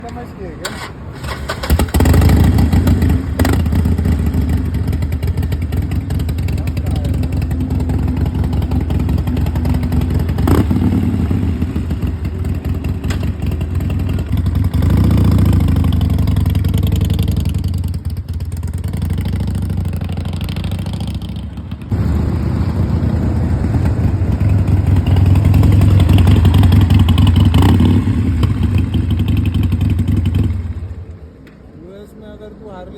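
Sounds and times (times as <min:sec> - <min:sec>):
motorcycle engine revving: 0:00.6 - 0:31.0.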